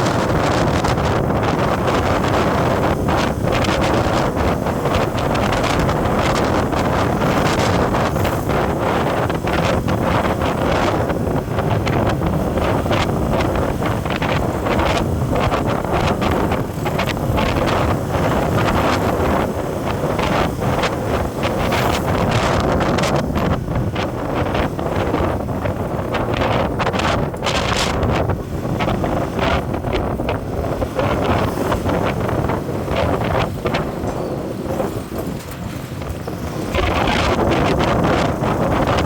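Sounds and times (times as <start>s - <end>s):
road noise: 0.0s - 39.0s
wind buffeting microphone: 0.0s - 39.0s.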